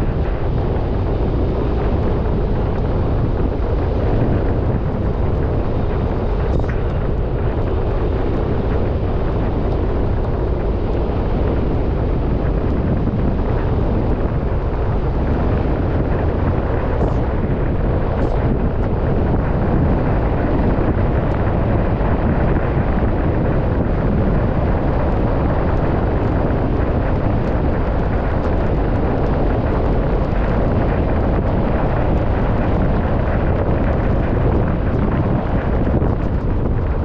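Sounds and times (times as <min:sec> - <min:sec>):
car road and wind noise: 0:00.0 - 0:37.0.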